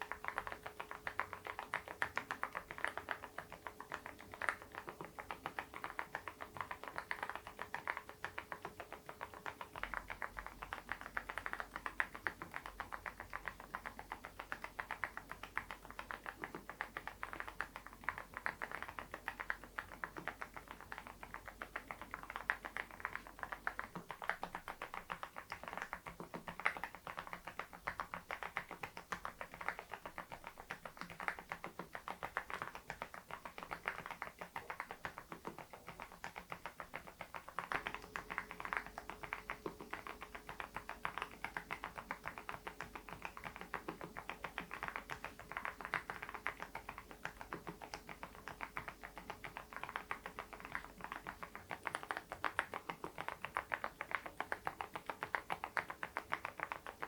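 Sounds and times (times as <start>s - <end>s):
muted keyboard typing: 0.0s - 57.0s.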